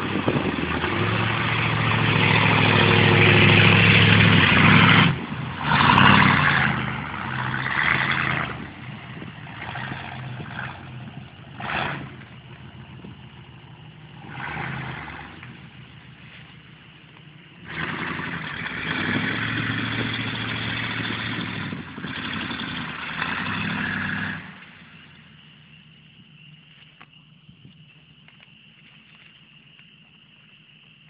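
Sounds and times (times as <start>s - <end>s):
pickup truck engine revving: 0.0s - 25.5s.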